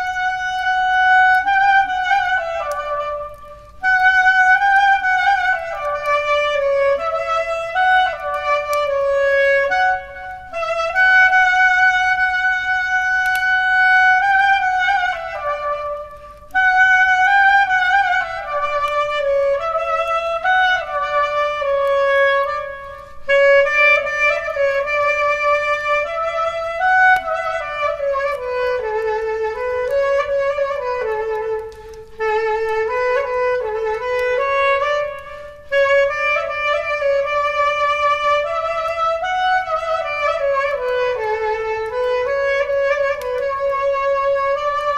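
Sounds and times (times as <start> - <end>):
solo clarinet melody: 0.0 - 44.9.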